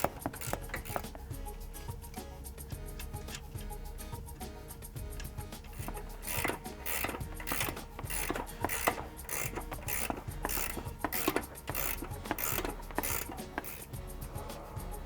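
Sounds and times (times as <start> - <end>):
ratchet wrench clicking: 0.0 - 15.0.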